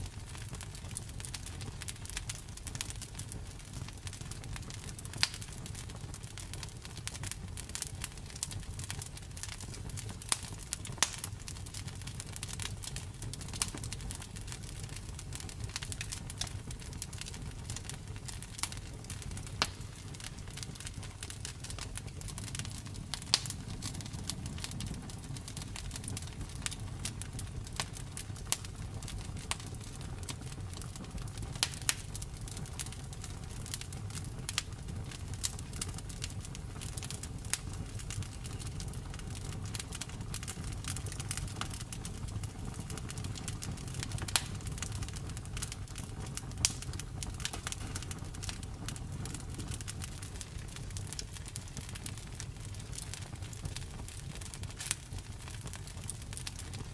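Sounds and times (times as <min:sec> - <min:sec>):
burning logs rumbling: 0:00.0 - 0:56.9
wood fire crackling: 0:00.0 - 0:56.9.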